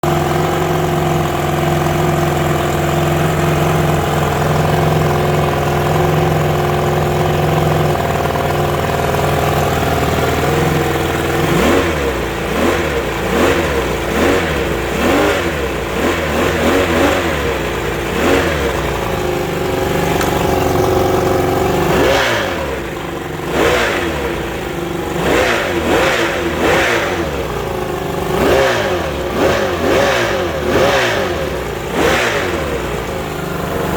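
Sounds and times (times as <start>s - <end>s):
outboard motor idling and revving: 0.0s - 33.9s.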